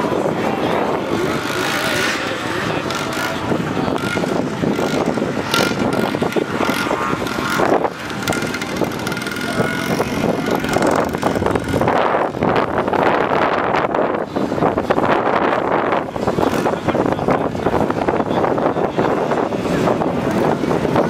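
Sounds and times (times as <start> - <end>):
snowmobile engine running: 0.7 - 21.0.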